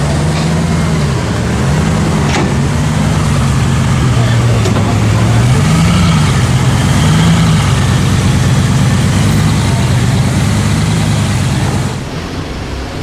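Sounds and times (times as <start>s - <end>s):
car engine low rumble: 0.0s - 13.0s.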